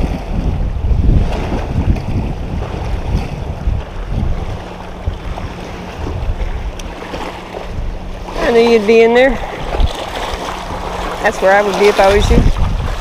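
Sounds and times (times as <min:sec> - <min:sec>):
small waves lapping shore: 0:00.0 - 0:13.0
wind buffeting microphone: 0:00.0 - 0:13.0.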